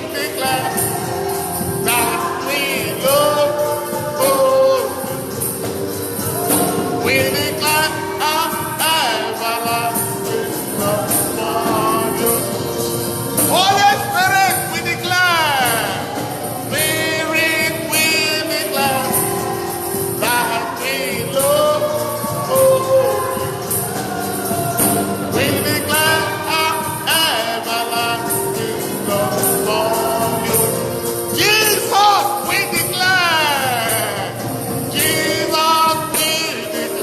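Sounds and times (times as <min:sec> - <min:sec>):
high jingling beat: 0:00.0 - 0:37.0
instrumental accompaniment: 0:00.0 - 0:37.0
voices singing: 0:00.0 - 0:37.0.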